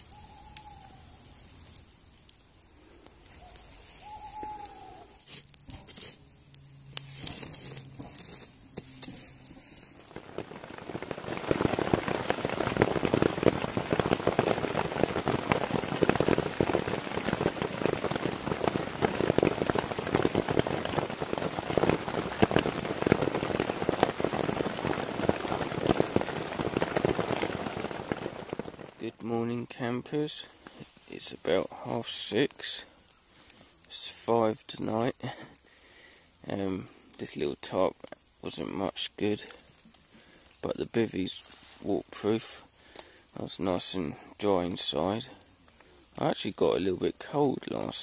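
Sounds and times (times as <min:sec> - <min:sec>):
heavy rain on a tarp: 0:07.0 - 0:48.0.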